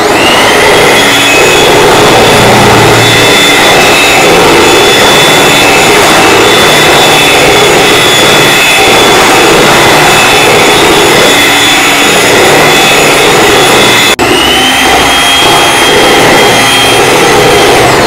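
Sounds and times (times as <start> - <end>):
electric hand mixer whine: 0.0 - 18.0.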